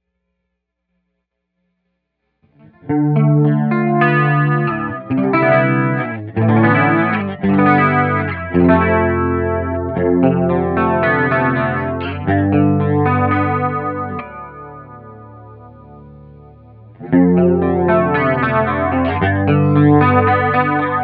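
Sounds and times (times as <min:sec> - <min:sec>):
flanged electric guitar chords: 0:02.5 - 0:21.0.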